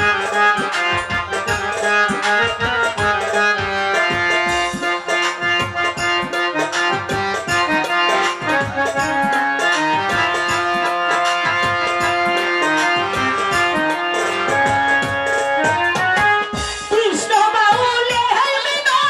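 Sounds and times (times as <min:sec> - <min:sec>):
hand drums beating: 0:00.0 - 0:18.4
keyboard melody: 0:00.0 - 0:18.4.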